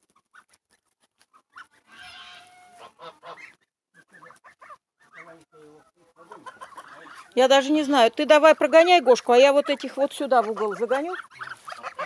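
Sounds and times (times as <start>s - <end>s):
geese honking: 1.3s - 12.0s.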